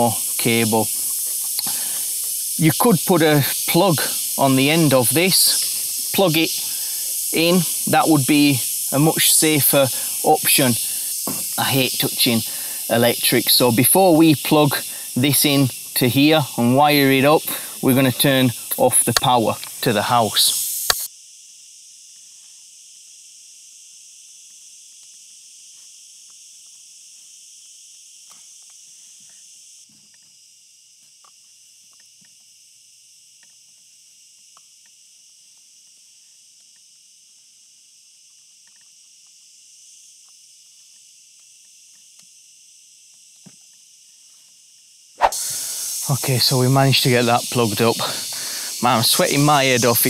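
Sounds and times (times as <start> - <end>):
insects chirring: 0.0 - 50.0.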